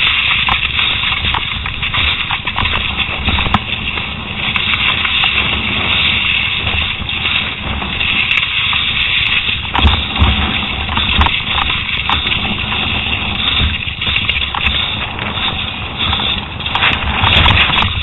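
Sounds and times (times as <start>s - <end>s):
mountain bike rattling over dirt: 0.0s - 18.0s
wind buffeting microphone: 0.0s - 18.0s.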